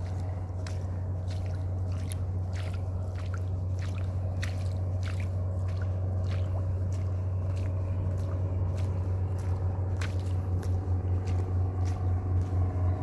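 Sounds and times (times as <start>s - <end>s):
footsteps on wet sand: 0.0s - 13.0s
steady low hum: 0.0s - 13.0s.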